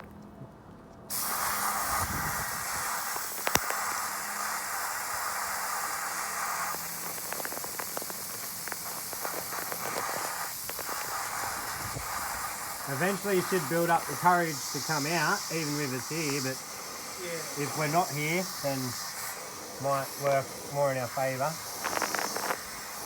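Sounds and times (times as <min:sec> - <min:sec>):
water hissing: 0:01.1 - 0:23.0.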